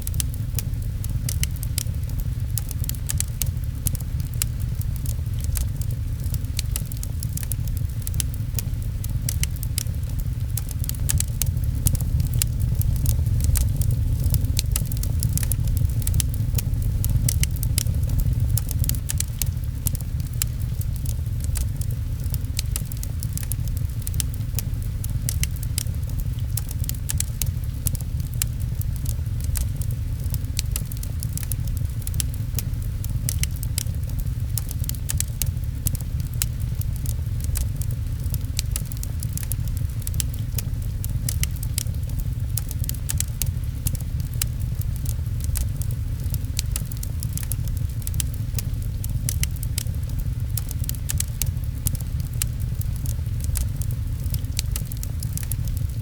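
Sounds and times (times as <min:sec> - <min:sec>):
rain: 0:00.0 - 0:56.0
wood fire crackling: 0:00.0 - 0:56.0.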